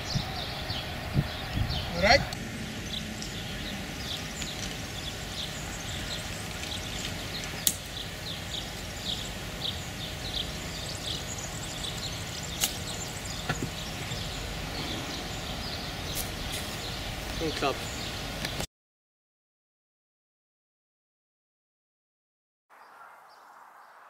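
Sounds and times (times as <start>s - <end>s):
small birds chirping: 0.0s - 18.7s, 22.7s - 24.0s.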